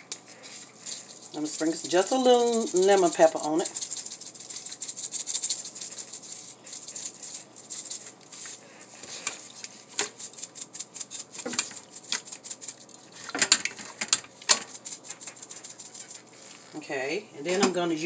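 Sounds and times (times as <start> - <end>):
spice shaker rattling: 0.0 - 16.7.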